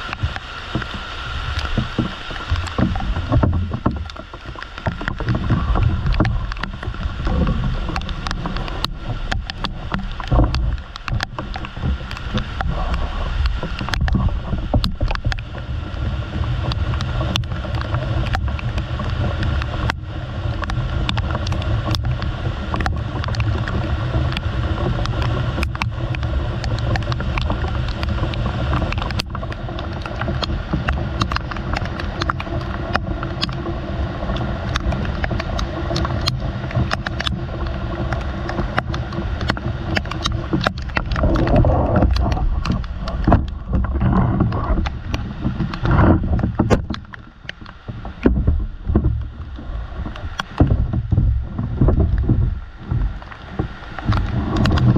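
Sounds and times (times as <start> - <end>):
low rumble: 0.0 - 54.9
rain on metal roof and leaves: 0.0 - 54.9.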